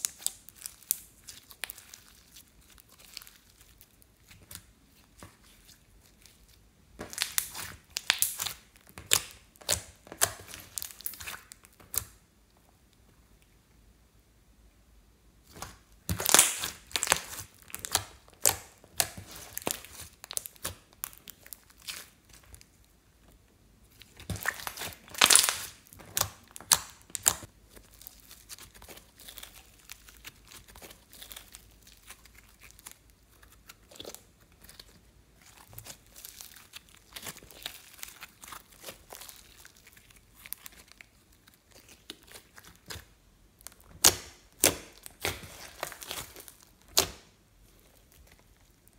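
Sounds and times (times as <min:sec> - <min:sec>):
slime crackling and popping: 0:00.0 - 0:12.2, 0:15.4 - 0:22.9, 0:23.9 - 0:48.9.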